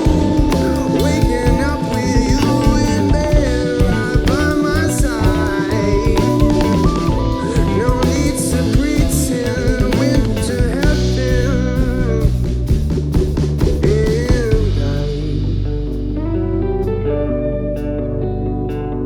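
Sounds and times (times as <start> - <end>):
rock band playing: 0.0 - 18.9
guitar lead with bending notes: 0.0 - 19.0.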